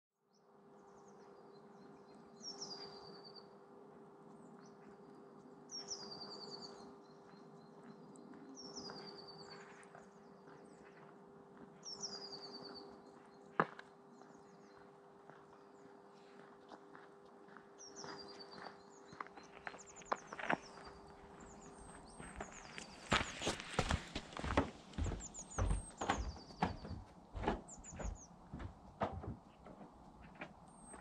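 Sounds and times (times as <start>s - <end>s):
songbird singing: 0.2s - 31.0s.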